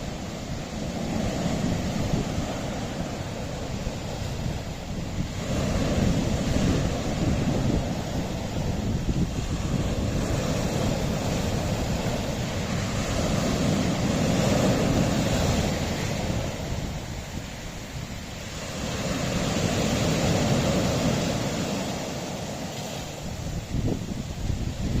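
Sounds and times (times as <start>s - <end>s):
waves breaking on rocky shore: 0.0s - 25.0s.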